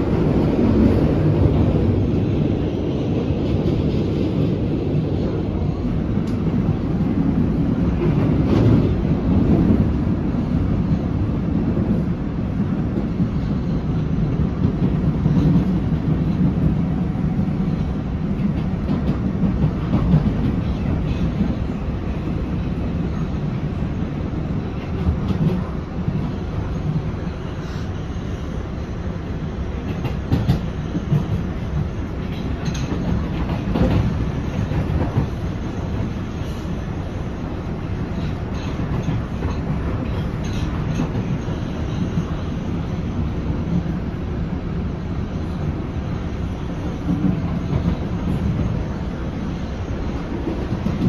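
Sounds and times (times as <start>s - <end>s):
subway car rumbling at speed: 0.0s - 51.0s.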